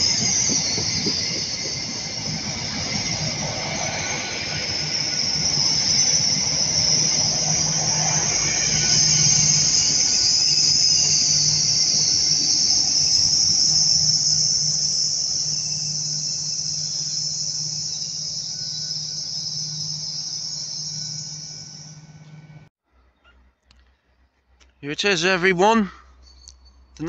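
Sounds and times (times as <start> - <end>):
train high-pitched hiss: 0.0 - 22.7
train low hum: 0.0 - 22.7, 23.5 - 27.0.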